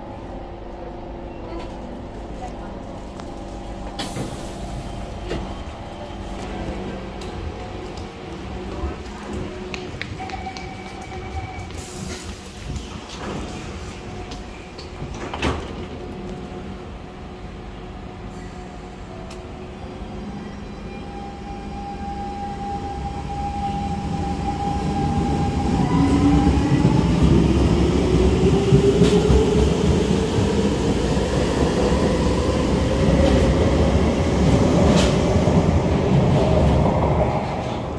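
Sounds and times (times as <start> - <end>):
wheels rumbling on rail: 0.0 - 19.8, 22.0 - 37.9.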